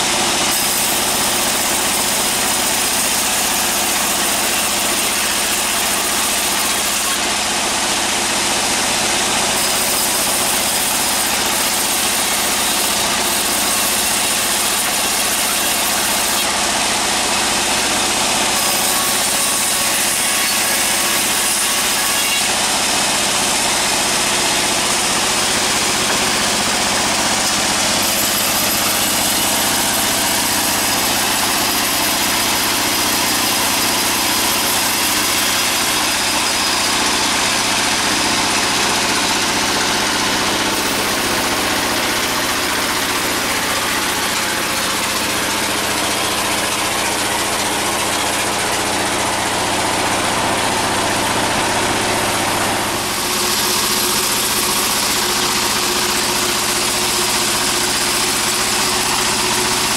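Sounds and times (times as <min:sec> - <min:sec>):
engine running steadily: 0:00.0 - 0:19.7, 0:22.4 - 0:59.9.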